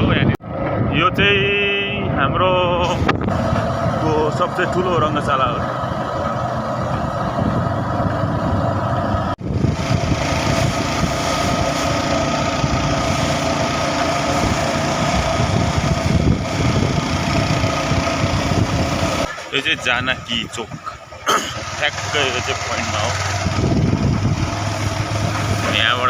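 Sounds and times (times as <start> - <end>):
road noise: 0.0 - 26.0
vehicle engine running: 0.0 - 26.0.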